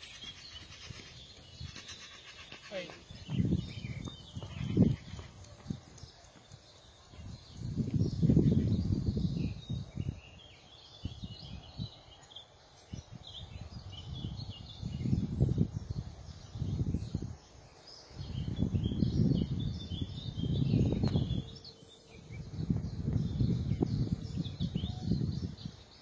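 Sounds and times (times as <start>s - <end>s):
small birds chirping and singing: 0.0s - 26.0s
wind rumbling on microphone: 0.0s - 26.0s.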